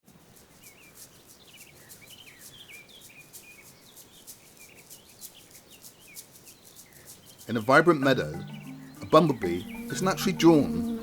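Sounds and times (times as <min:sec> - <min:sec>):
insect pulsing: 0:00.1 - 0:09.0
small birds chirping: 0:00.1 - 0:11.0.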